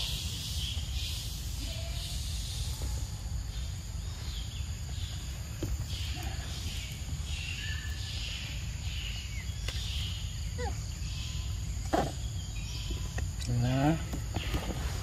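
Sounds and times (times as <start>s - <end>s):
high insect-like hiss: 0.0s - 15.0s.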